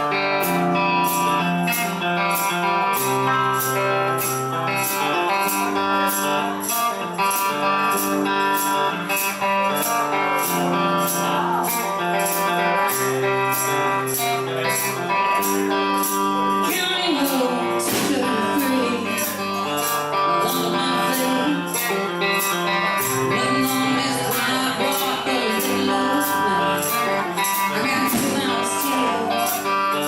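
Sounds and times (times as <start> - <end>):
guitars holding chords: 0.0 - 30.0
tambourine beat: 0.0 - 30.0.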